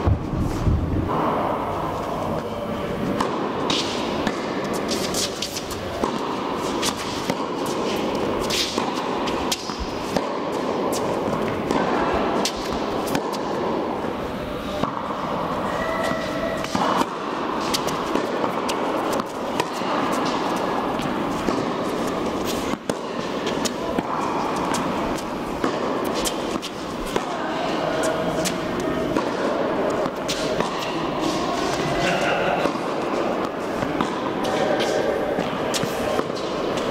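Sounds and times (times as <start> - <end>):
tennis balls hit by rackets: 1.0 - 36.9
tennis balls bouncing on court: 2.3 - 36.9.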